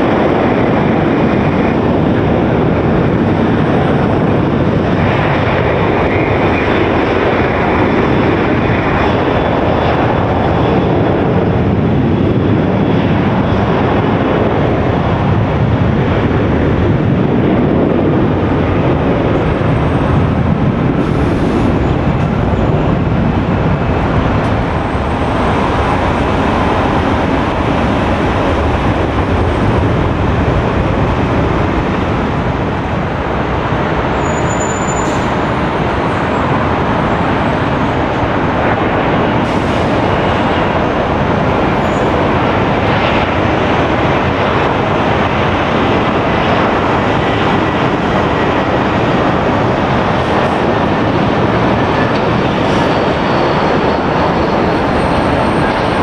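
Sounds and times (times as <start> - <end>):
jet airliner engines running: 0.0 - 56.0.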